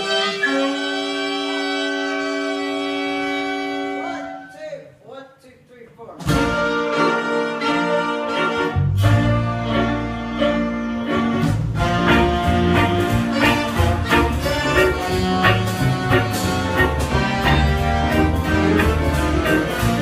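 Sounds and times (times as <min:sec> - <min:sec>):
jazz band playing swing: 0:00.0 - 0:04.4, 0:06.2 - 0:20.0.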